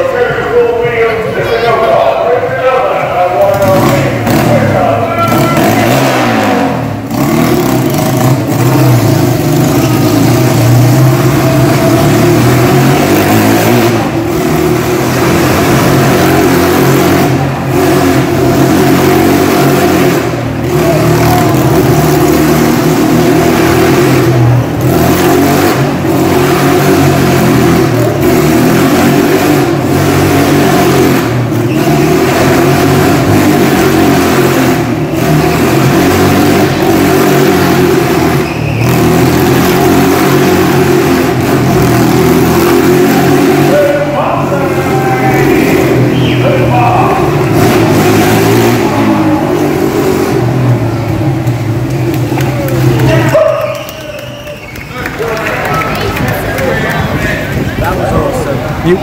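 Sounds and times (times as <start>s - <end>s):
motorcycle engines running hard: 0.0s - 59.0s.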